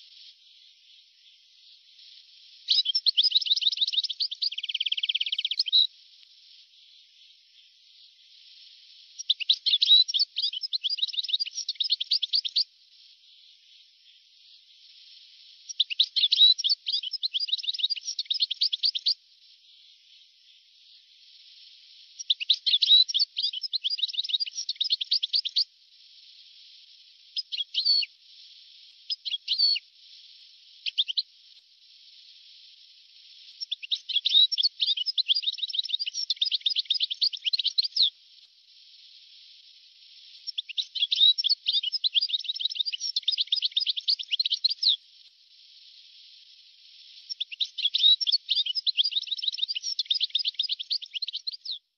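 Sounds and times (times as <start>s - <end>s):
bird twittering song: 0.0s - 51.9s
faint steady hiss: 0.0s - 51.9s.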